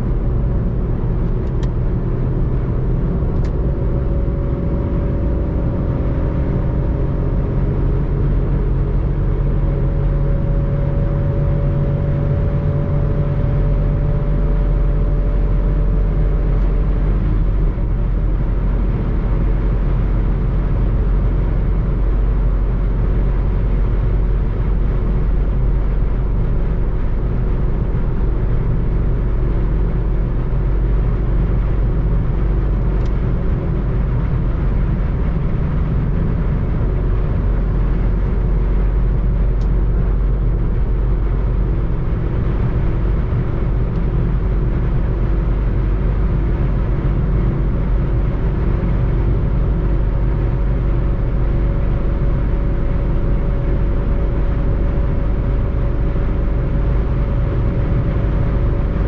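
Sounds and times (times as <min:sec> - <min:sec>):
car engine droning: 0:00.0 - 0:59.0
road noise: 0:00.0 - 0:59.0.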